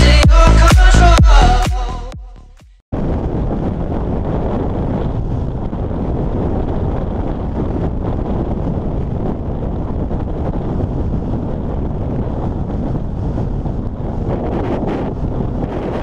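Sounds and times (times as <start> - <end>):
wind buffeting microphone: 2.9 - 16.0.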